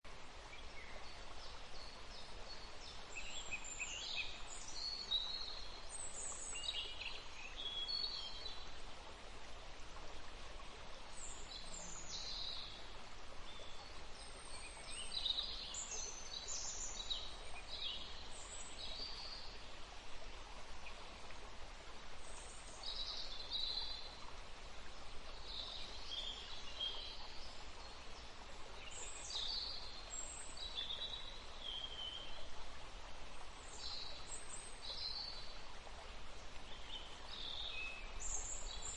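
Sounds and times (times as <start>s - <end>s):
river flowing: 0.1s - 38.9s.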